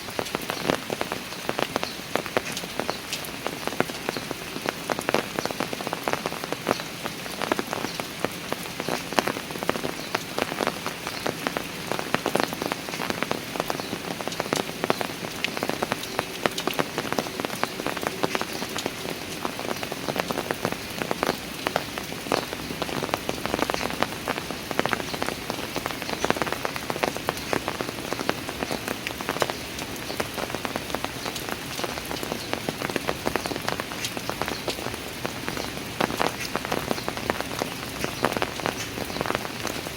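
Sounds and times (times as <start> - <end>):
raindrops pattering on hard surfaces: 0.0 - 39.9
steady rain hiss: 0.0 - 39.9.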